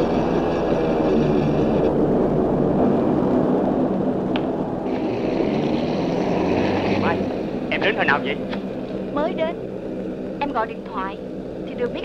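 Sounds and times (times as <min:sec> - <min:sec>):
jeep engine rumble: 0:00.0 - 0:12.0.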